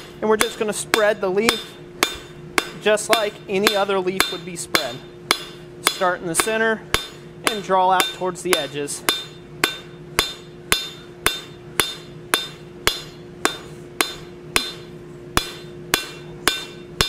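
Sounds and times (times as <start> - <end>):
hammer striking steel on anvil: 0.0 - 17.0.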